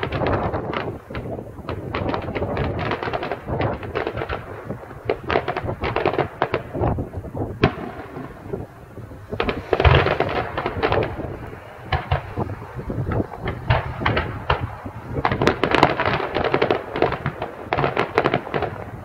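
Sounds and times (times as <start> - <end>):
fireworks bangs and crackles: 0.0 - 19.0
low booming fireworks: 0.0 - 19.0.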